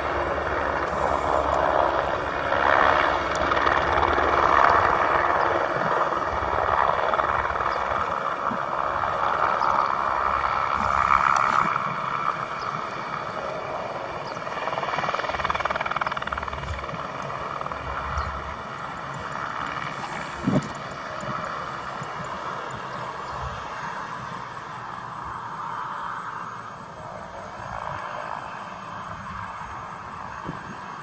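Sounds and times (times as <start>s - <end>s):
helicopter turbine and rotor: 0.0s - 31.0s.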